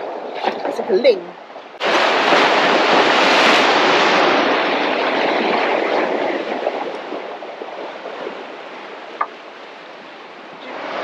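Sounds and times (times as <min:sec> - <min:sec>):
waves washing over rocks: 0:00.0 - 0:11.0.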